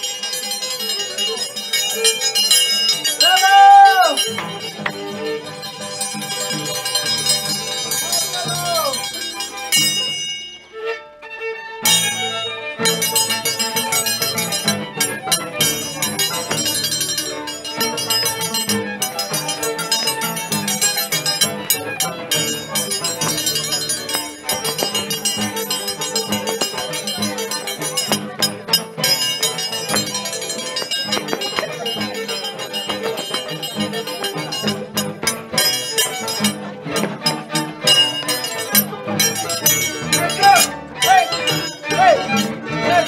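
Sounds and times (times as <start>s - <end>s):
live folk band music: 0.0s - 43.0s.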